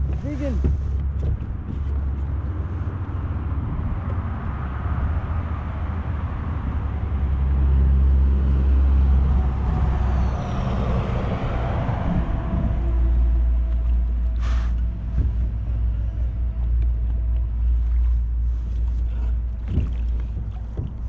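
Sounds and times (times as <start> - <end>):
truck traffic rumbling on bridge: 0.0 - 21.0.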